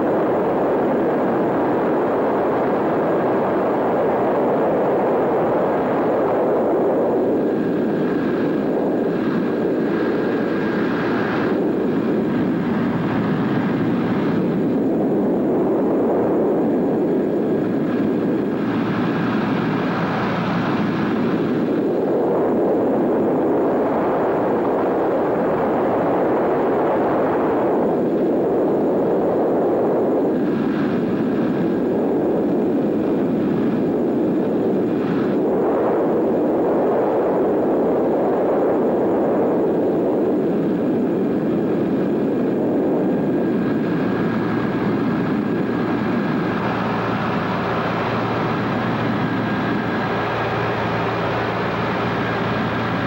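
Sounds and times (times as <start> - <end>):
piston aircraft engines droning: 0.0 - 53.0.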